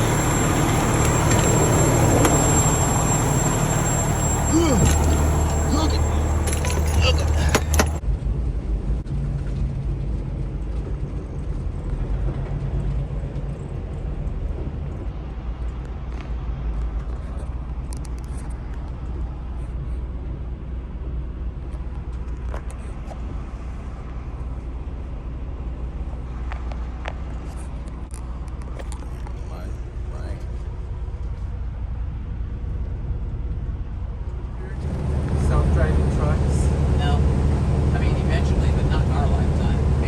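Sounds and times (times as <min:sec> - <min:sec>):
diesel engine rumble: 0:00.0 - 0:40.0.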